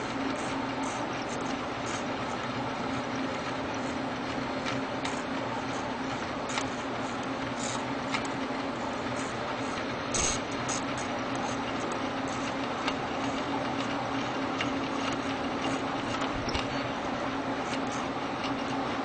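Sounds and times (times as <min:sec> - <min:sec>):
three d printer humming: 0:00.0 - 0:19.0.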